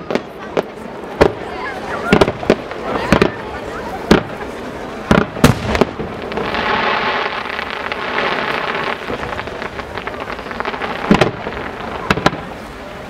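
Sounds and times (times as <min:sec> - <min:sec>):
fireworks crackling and fizzing: 0:00.0 - 0:13.0.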